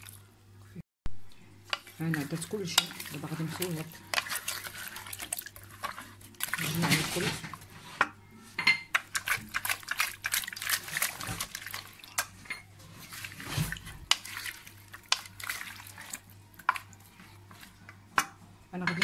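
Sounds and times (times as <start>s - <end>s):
spoon stirring wet vegetables: 0.0s - 19.0s.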